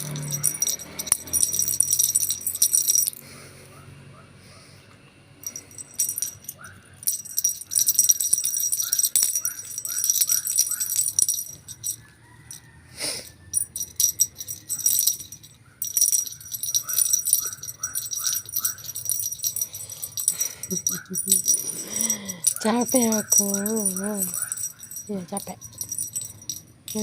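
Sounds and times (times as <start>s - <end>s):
small jingle bell shaking: 0.0s - 3.2s, 5.4s - 27.0s.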